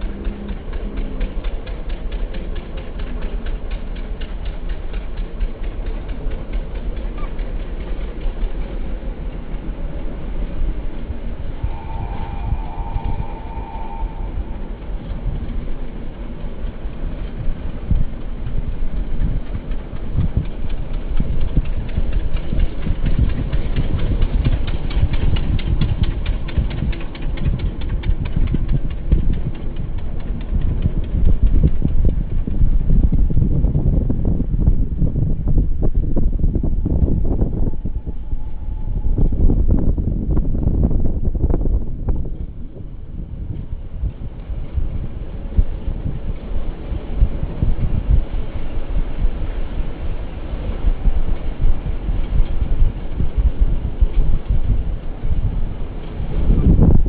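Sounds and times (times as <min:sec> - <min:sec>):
vehicle rumble from inside: 0:00.0 - 0:57.0.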